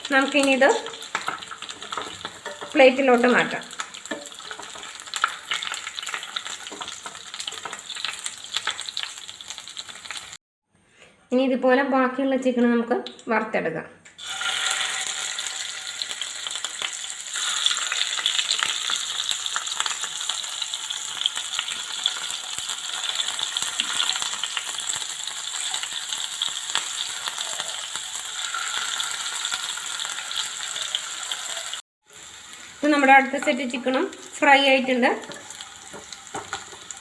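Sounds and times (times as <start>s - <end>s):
chicken sizzling in oil: 0.0s - 10.4s, 14.2s - 37.0s.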